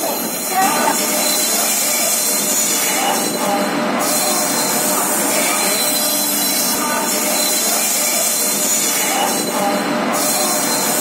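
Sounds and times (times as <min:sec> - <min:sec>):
train wheels running on rail: 0:00.0 - 0:11.0.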